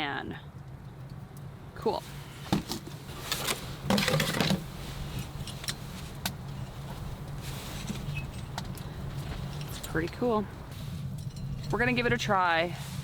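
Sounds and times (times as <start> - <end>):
steady low hum: 0.0 - 13.0
metal fan clinking and rustling: 2.3 - 13.0.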